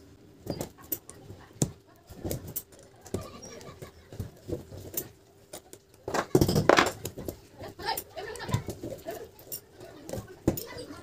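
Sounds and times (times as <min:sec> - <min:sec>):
metal laminations clicking and scraping: 0:00.4 - 0:11.0.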